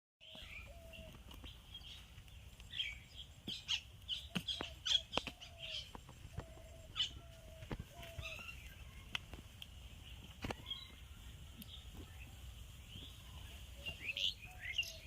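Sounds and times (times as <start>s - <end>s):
birds chirping and calling: 0.2s - 15.0s.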